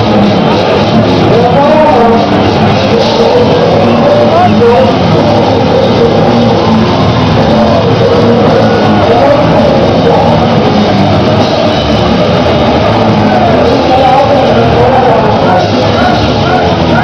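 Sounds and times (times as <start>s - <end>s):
black metal band playing live: 0.0s - 17.0s.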